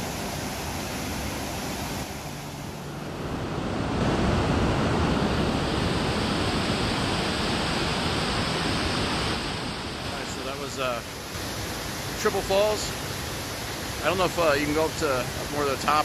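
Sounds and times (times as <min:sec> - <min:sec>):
waterfall rushing over rock: 0:00.0 - 0:03.3, 0:03.9 - 0:16.0.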